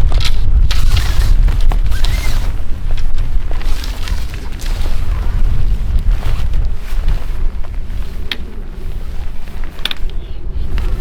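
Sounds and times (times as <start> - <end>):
tent fabric rustling: 0.0 - 11.0
wind buffeting microphone: 0.0 - 11.0.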